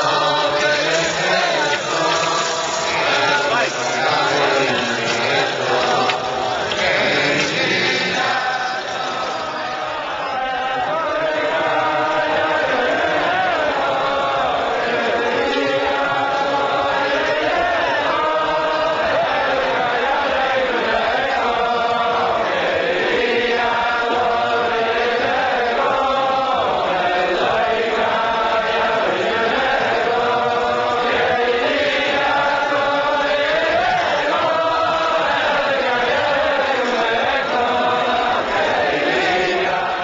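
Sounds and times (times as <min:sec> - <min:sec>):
men singing in unison: 0:00.0 - 0:40.0.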